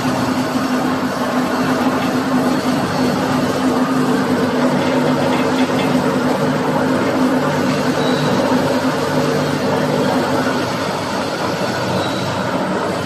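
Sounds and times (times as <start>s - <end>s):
bending machine humming: 0.0s - 13.0s.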